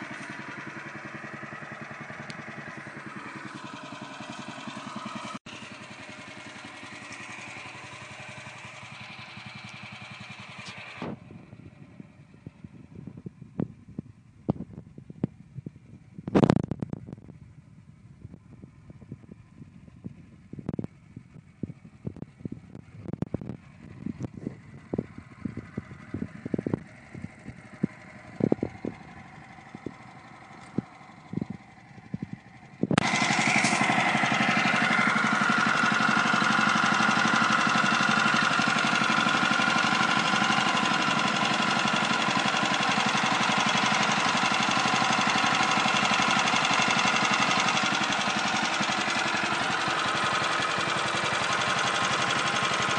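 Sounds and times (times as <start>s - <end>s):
gasoline engine running loud: 0.0s - 52.9s.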